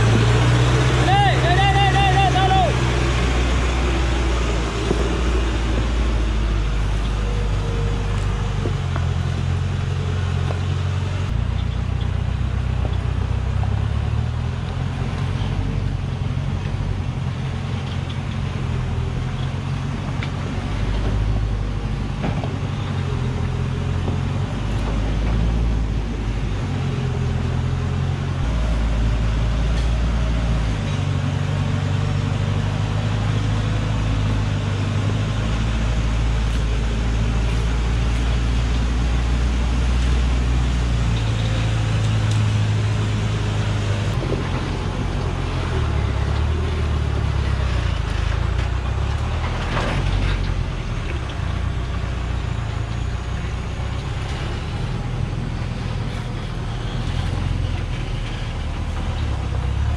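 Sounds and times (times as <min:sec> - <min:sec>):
truck engine labouring: 0:00.0 - 0:59.9.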